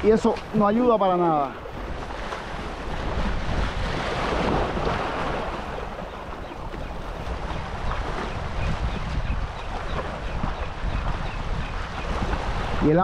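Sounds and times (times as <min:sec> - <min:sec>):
sea water washing against rocks: 0:00.0 - 0:13.0
wind buffeting microphone: 0:00.0 - 0:13.0.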